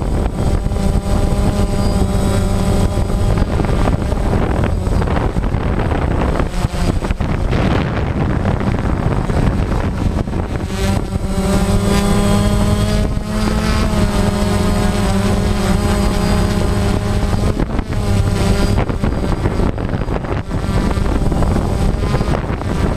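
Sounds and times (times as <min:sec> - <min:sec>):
drone propellers buzzing: 0:00.0 - 0:22.9
wind on microphone: 0:00.0 - 0:22.9.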